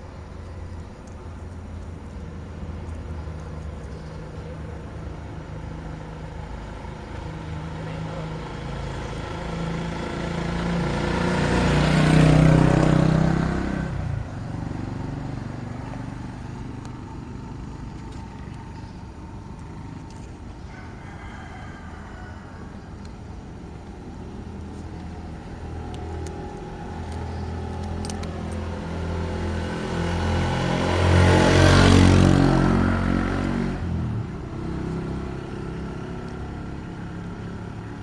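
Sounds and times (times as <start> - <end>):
vehicle passing: 1.4 - 38.0.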